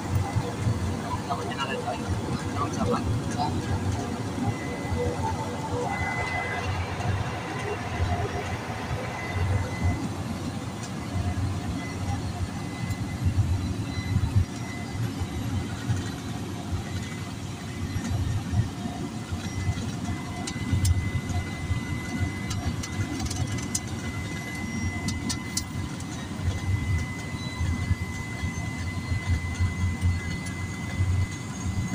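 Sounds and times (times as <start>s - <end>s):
high whine: 0.0s - 31.9s
propeller plane engine drone: 0.0s - 31.9s.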